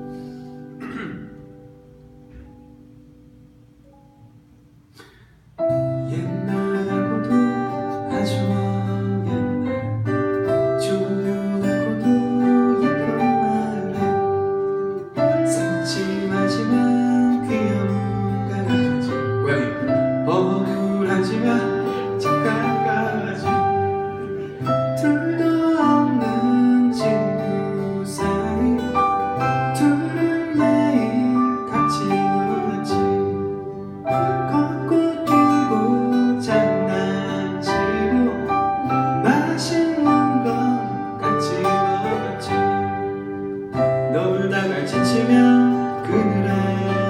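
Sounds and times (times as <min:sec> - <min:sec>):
acoustic guitars playing: 0:00.0 - 0:47.0
man singing: 0:05.7 - 0:47.0.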